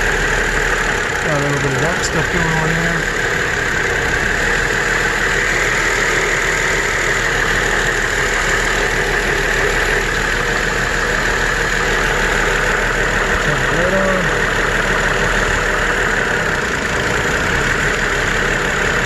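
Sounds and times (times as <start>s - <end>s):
engine idling with misfire: 0.0s - 19.0s.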